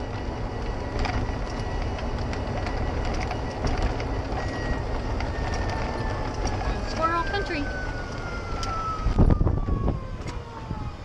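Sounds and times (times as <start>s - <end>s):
golf cart driving: 0.0s - 11.0s.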